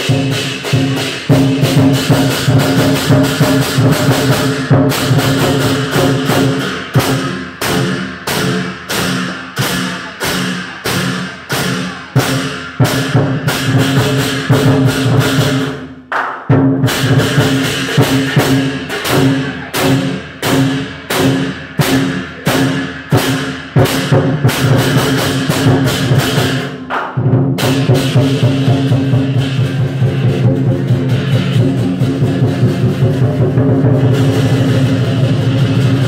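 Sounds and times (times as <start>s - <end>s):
cymbals clashing: 0.0s - 36.0s
large drum beating: 0.0s - 36.0s.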